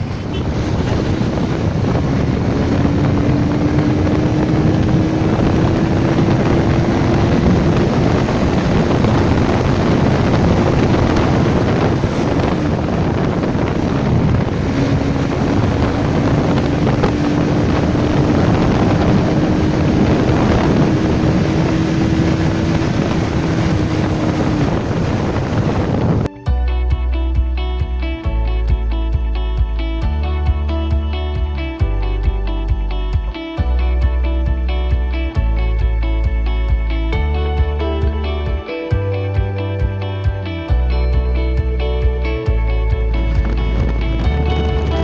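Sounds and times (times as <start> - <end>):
motorcycle engine accelerating: 0.0 - 45.0
wind noise on microphone: 0.0 - 45.0.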